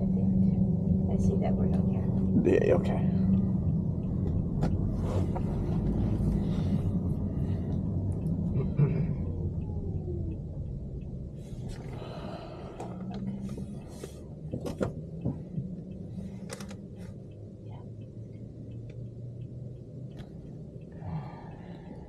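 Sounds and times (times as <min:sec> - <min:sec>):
car and road rumble: 0:00.0 - 0:22.0
faint regular ticking: 0:00.0 - 0:22.0.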